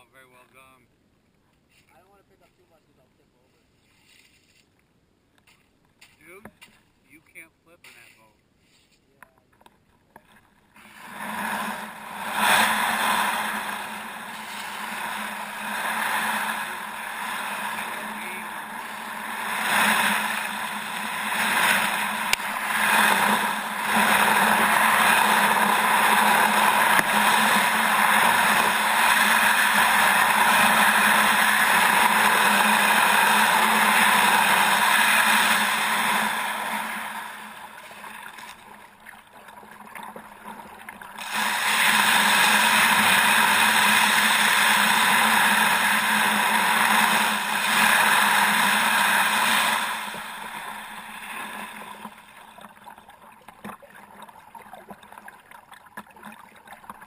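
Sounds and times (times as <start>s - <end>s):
kayak rushing through water: 10.1s - 57.0s.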